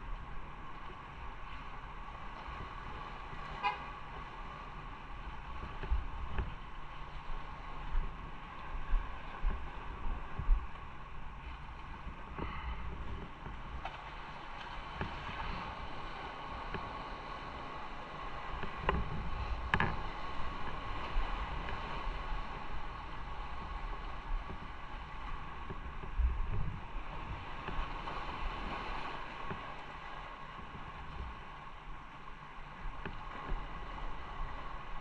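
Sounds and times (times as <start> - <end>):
road and wind noise: 0.0 - 35.0.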